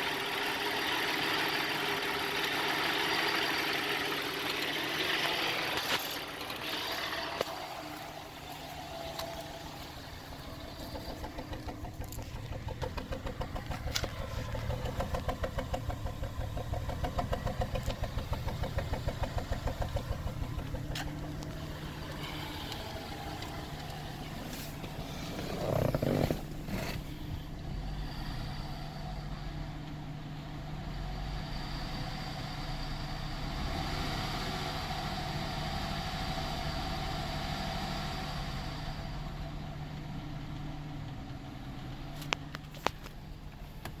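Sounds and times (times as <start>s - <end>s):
car engine idling roughly: 0.0s - 33.6s, 38.5s - 44.0s.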